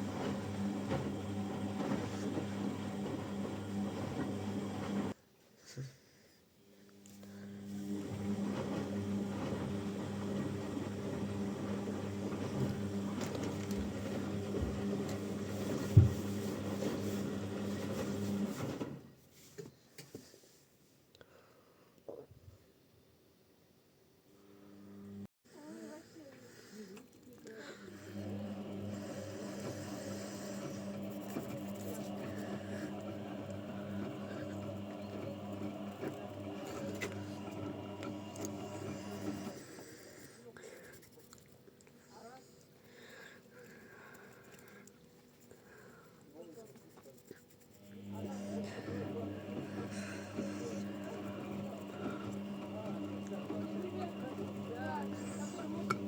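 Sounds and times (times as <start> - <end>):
washing machine motor hum: 0.0 - 5.2, 7.3 - 19.2, 27.6 - 42.2, 42.8 - 56.0.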